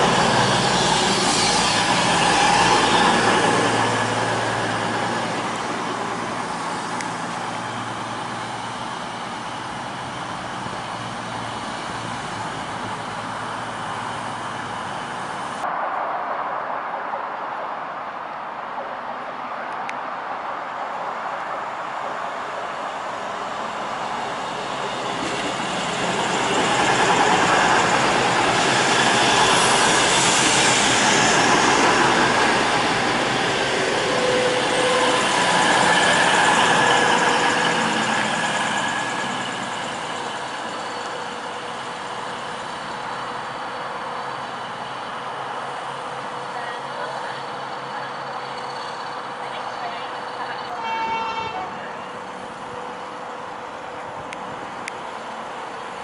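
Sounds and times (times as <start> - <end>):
steady engine whine: 0.0 - 16.2, 21.9 - 56.0
diesel train passing at speed: 0.0 - 56.0.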